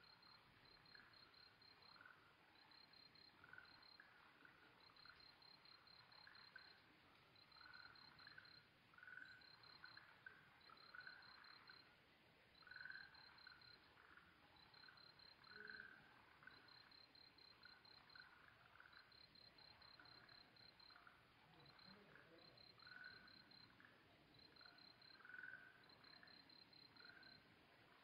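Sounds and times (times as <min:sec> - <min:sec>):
insect chirping: 0:00.0 - 0:28.0
frogs calling: 0:00.2 - 0:06.8, 0:07.4 - 0:11.9, 0:12.6 - 0:27.5.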